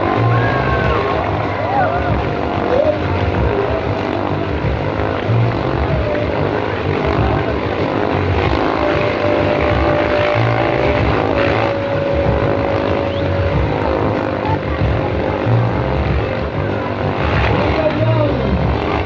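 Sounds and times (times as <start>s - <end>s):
motorcycle engines droning: 0.0s - 19.0s.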